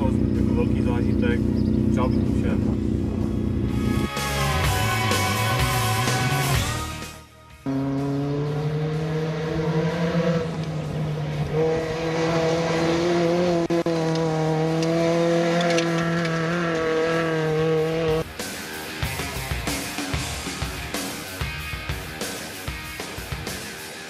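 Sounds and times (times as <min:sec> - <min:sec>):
rally car engine running hard: 0:00.0 - 0:06.8, 0:07.6 - 0:24.0.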